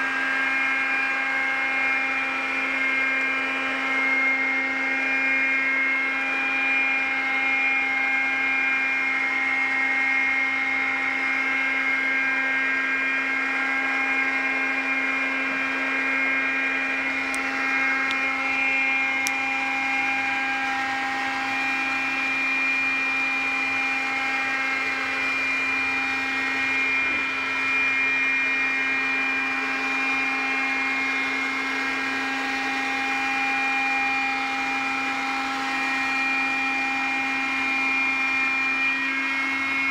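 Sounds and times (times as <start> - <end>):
floor-washing robot motor whine: 0.0 - 39.9.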